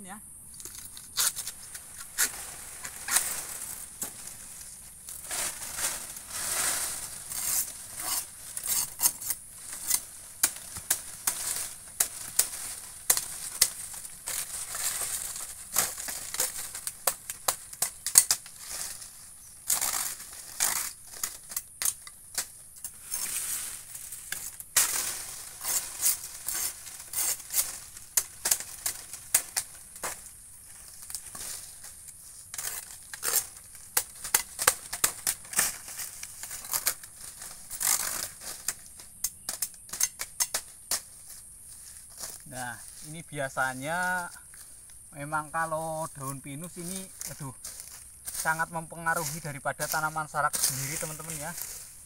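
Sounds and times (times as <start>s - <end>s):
machete chopping fronds: 0.6s - 43.1s, 45.5s - 52.0s
dry leaves crackling and rustling: 0.6s - 52.0s.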